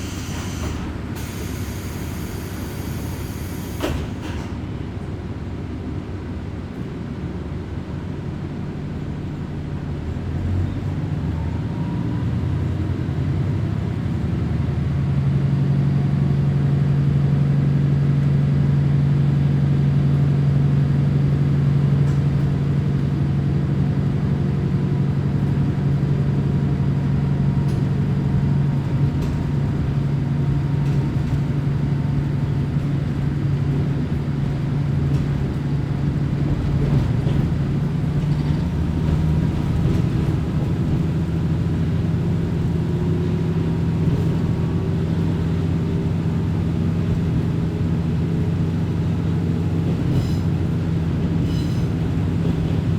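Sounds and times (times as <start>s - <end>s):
railcar diesel engine running: 0.0s - 52.9s.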